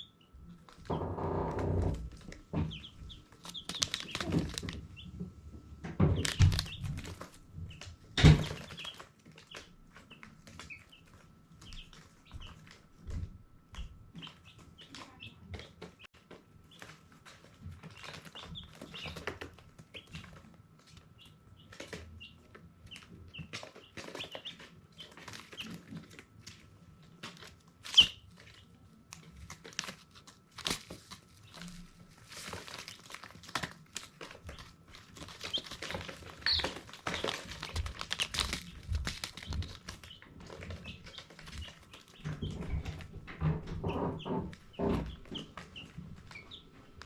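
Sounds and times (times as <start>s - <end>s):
chicks peeping: 0.0s - 47.0s
chicks rustling and scratching: 0.0s - 47.0s.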